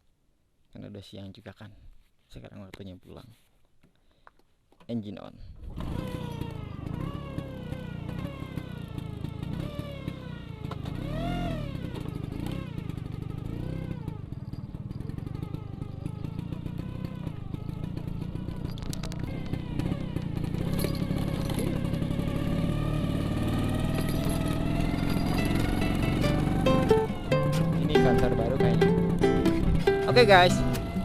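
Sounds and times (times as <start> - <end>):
scooter engine revving: 5.7 - 31.0.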